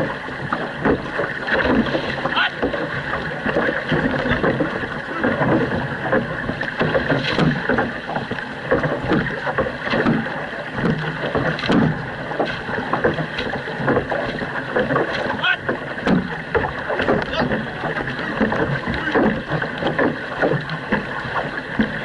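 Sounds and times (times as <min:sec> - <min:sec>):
paddles pulling through water: 0:00.0 - 0:22.0
water rushing along hull: 0:00.0 - 0:22.0.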